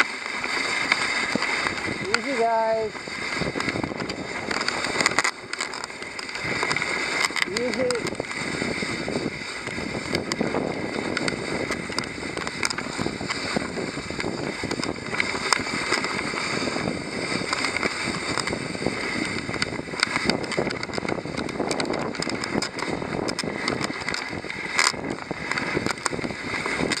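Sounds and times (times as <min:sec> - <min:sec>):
sled clicks and knocks: 0:00.0 - 0:27.0
sled runners hissing on snow: 0:00.0 - 0:27.0
wind on microphone: 0:00.7 - 0:27.0.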